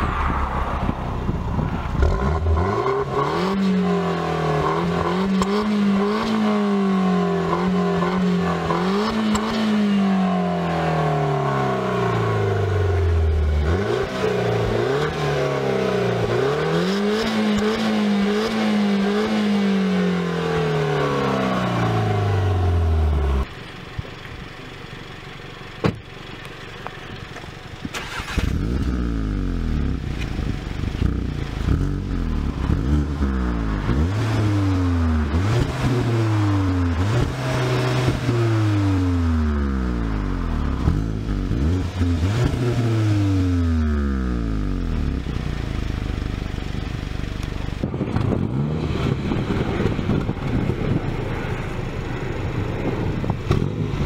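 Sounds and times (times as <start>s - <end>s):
car engine revving: 0.0s - 23.6s, 27.9s - 54.0s
quieter engine running: 0.0s - 54.0s.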